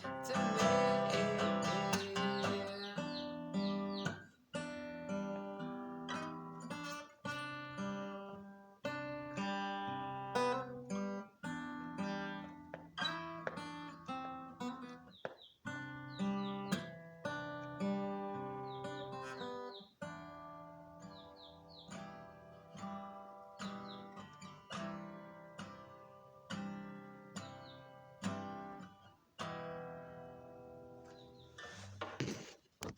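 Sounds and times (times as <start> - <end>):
acoustic guitar strumming chords: 0.0 - 32.2.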